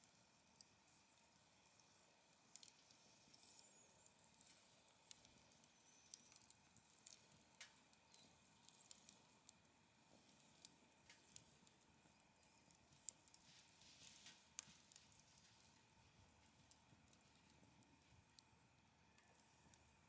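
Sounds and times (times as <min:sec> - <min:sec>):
wood fire crackling faintly: 0:00.0 - 0:20.0.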